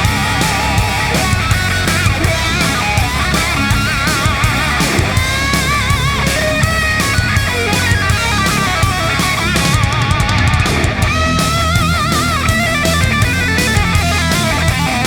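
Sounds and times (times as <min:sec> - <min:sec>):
rock music with guitar lead: 0:00.0 - 0:15.0.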